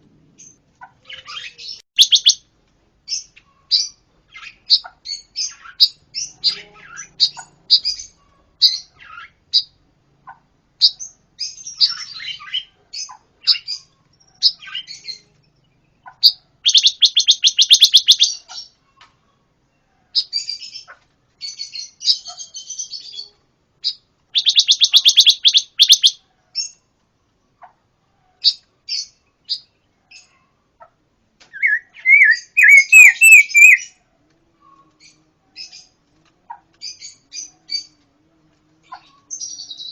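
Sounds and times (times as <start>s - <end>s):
songbird chirps and trills: 0.3s - 39.9s.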